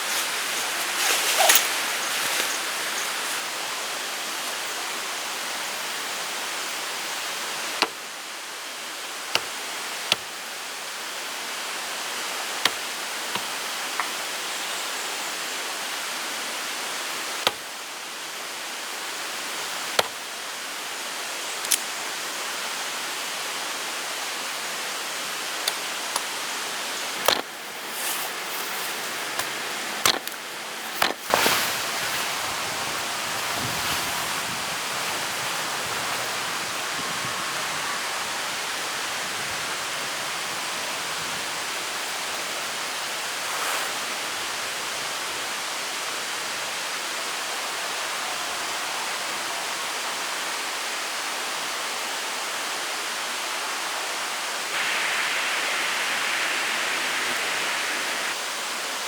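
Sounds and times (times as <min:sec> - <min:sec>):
steady rain in forest: 0:00.0 - 0:59.0.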